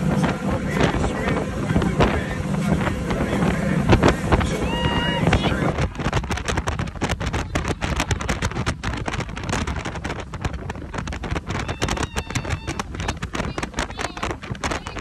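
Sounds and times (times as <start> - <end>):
motorboats running past: 0.0 - 15.0
wind buffeting microphone: 0.0 - 15.0.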